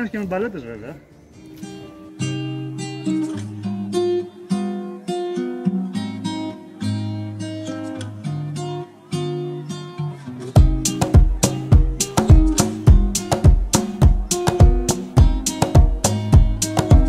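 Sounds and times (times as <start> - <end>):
acoustic guitar picking: 1.4 - 17.0.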